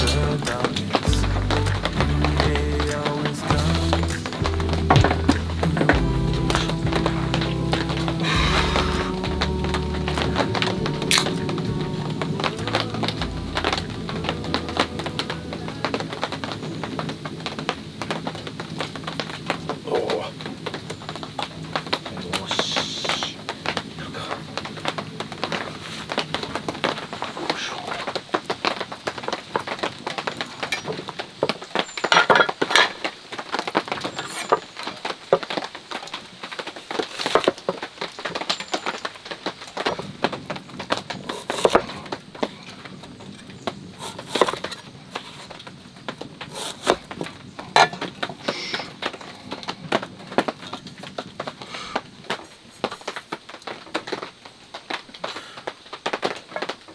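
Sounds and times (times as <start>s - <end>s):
light crackling: 0.0s - 56.9s.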